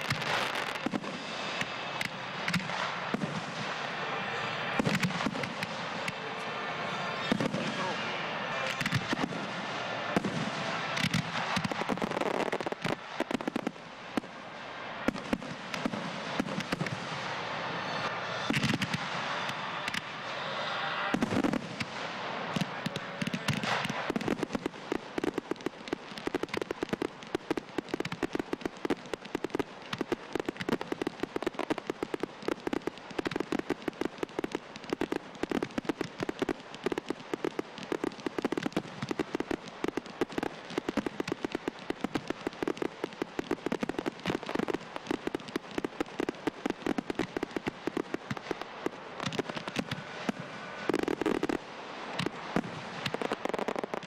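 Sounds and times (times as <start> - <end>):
firework battery pops and crackles: 0.0 - 54.0.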